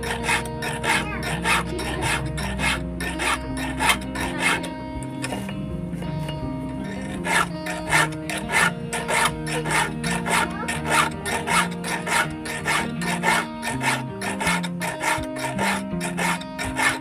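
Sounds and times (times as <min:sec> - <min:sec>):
file rasping on chainsaw chain: 0:00.0 - 0:05.4, 0:06.8 - 0:17.0.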